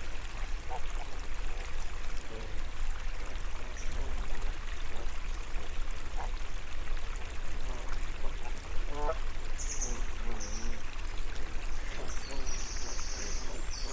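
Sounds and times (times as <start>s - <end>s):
water flowing and trickling: 0.0s - 13.9s.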